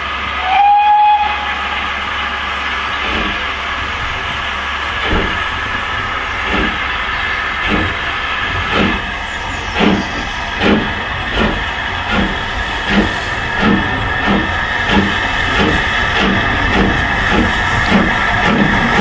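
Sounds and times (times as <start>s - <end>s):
steam locomotive exhaust beats: 0.0s - 19.0s
steady hiss of steam: 0.4s - 19.0s.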